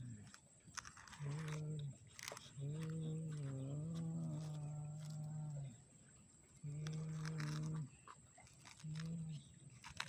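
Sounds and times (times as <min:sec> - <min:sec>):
toy excavator scraping sand: 0:00.0 - 0:05.3, 0:06.8 - 0:10.0.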